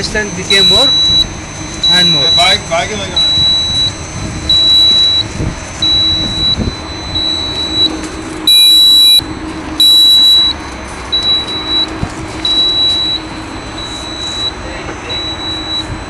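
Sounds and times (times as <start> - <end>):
high-pitched warning beeps: 0.0 - 16.0
low machine hum: 0.0 - 16.0.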